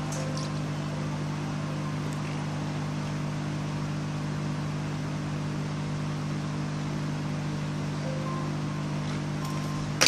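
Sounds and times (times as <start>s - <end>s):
hot-air station fan hissing: 0.0s - 10.0s.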